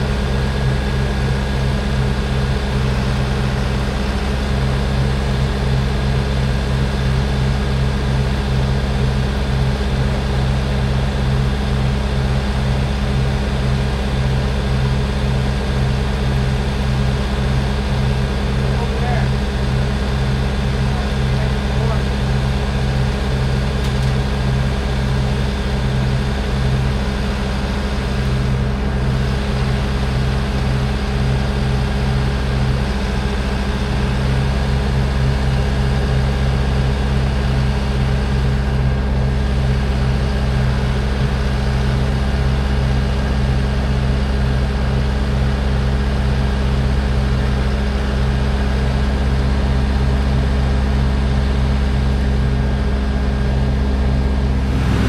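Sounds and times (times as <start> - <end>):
heavy engine droning: 0.0 - 55.0.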